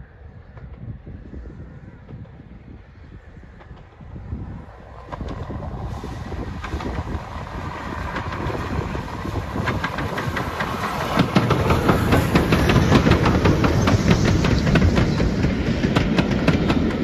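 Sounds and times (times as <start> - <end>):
train wheels clicking on rails: 0.1 - 17.0.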